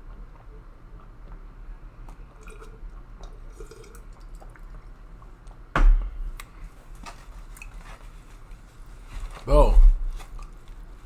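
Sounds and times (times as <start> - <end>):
eating and handling noises: 0.0 - 5.7, 6.4 - 11.0.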